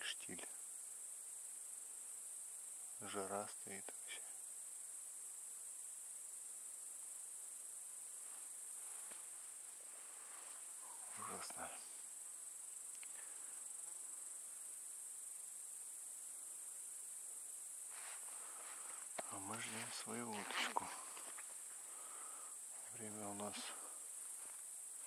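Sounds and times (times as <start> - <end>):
grasshoppers chirring: 0.0 - 25.0.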